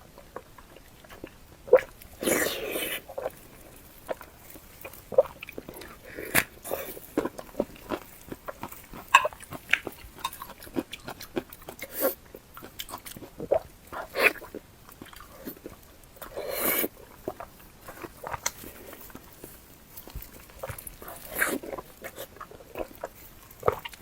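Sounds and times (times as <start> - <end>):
chewing and mouth sounds: 0.0 - 24.0.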